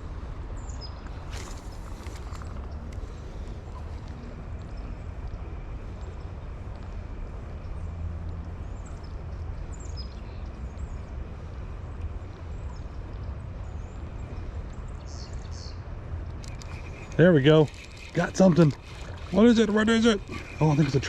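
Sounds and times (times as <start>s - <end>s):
low rumbling outdoor ambience: 0.0s - 21.0s.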